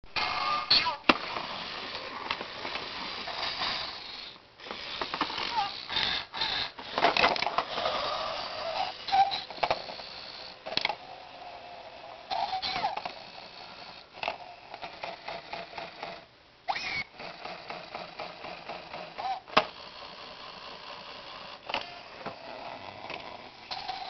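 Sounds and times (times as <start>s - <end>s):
toy motor whirring: 0.2s - 24.0s.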